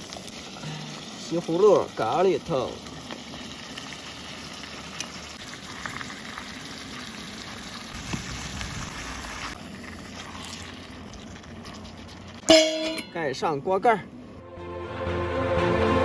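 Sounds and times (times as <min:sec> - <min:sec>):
vegetables sizzling and bubbling in pot: 0:00.0 - 0:14.2.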